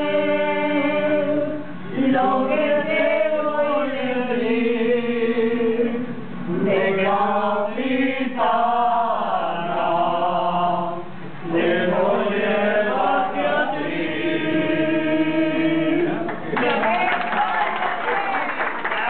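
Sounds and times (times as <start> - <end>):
choir singing: 0.0 - 16.4.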